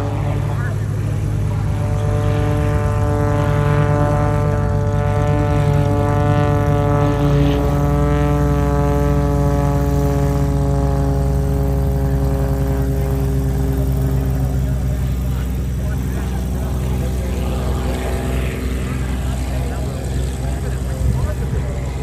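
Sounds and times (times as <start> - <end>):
propeller plane engine in flight: 0.0 - 22.0.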